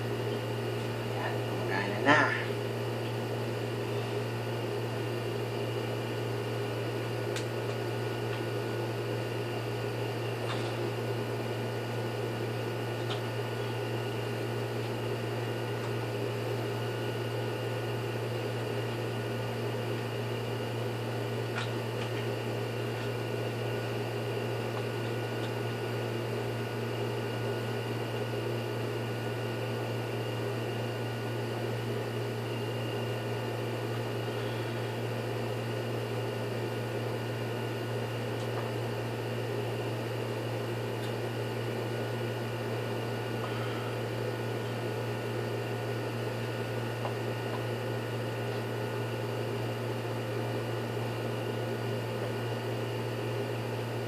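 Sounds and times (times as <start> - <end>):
constant whine: 0.0 - 54.0
electric motor hum: 0.0 - 54.0.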